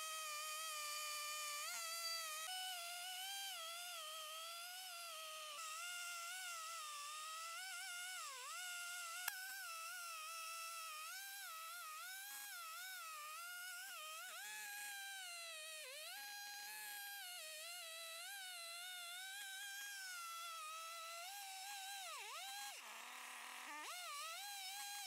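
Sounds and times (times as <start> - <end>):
chainsaw cutting log: 0.0 - 17.6, 19.2 - 25.0.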